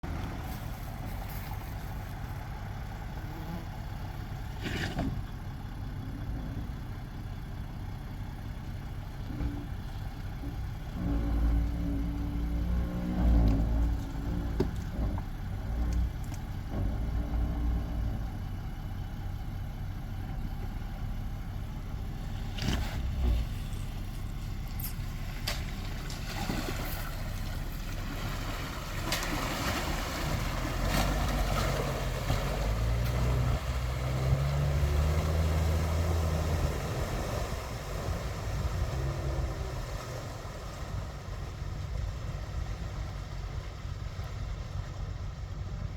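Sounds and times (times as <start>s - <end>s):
car engine driving off-road: 0.0s - 45.9s.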